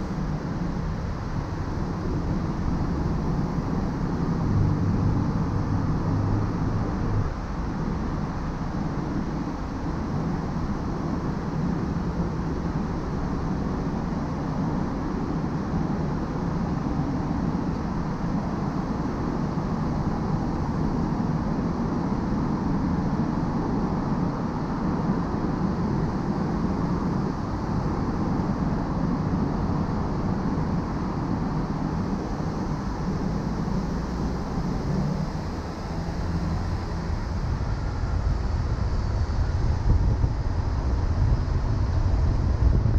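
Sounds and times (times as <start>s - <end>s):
car road noise on highway: 0.0s - 42.9s.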